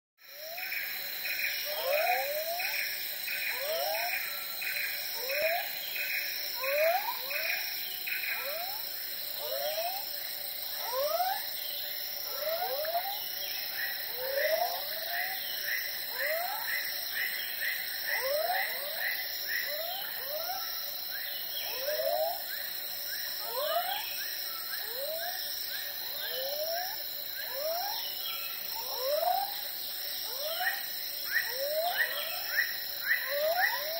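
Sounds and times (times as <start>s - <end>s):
insect drones: 0.2s - 33.9s.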